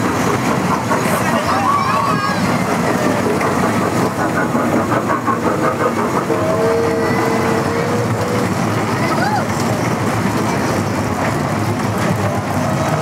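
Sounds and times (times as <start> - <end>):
small ride train running on track: 0.0 - 13.0.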